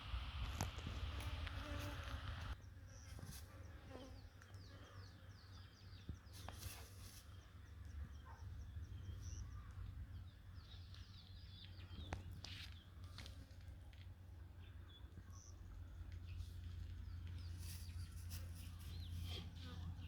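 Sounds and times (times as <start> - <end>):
small birds chirping: 1.6 - 20.0.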